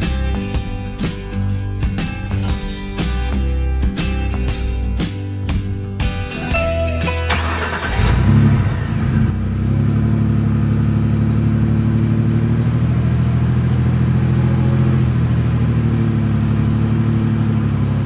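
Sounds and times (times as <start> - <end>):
vehicle engine running steadily: 0.0 - 18.0.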